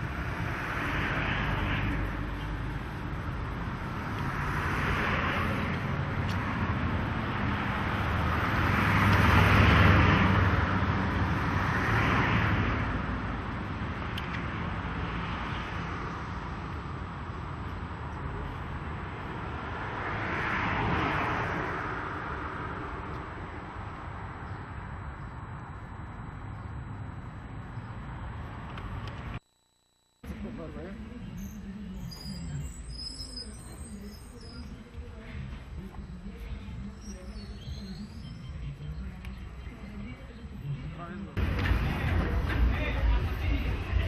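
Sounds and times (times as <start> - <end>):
vehicles passing: 0.0 - 29.4, 30.2 - 44.0.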